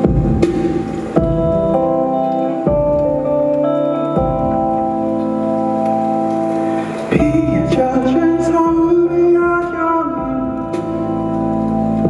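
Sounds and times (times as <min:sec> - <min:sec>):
keyboard chords: 0:00.0 - 0:12.0.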